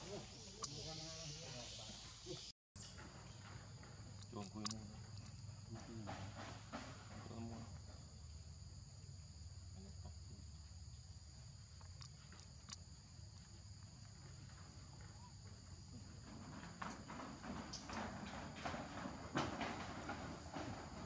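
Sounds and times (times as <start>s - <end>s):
insect chorus drone: 0.0s - 21.0s.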